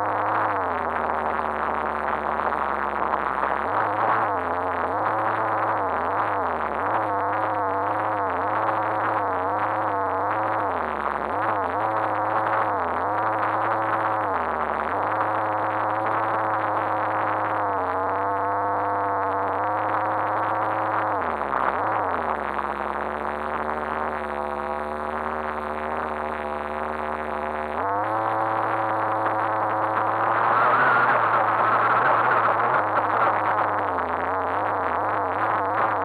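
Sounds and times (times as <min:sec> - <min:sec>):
muffled toy car motor whine: 0:00.0 - 0:36.0.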